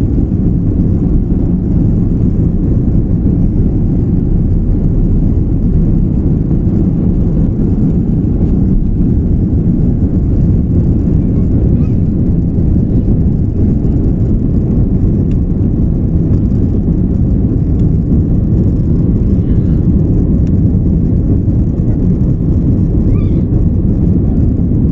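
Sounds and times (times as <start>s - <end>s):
airplane engine rumble in cabin: 0.0s - 24.9s.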